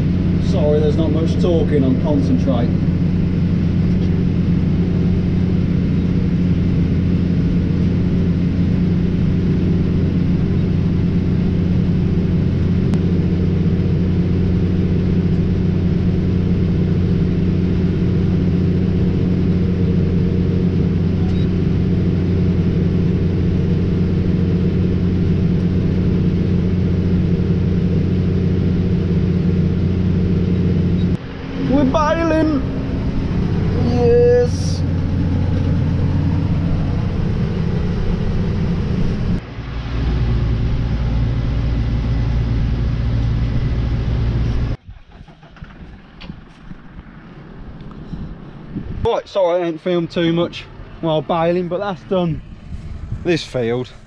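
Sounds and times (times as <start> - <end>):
tractor engine droning: 0.0 - 54.0.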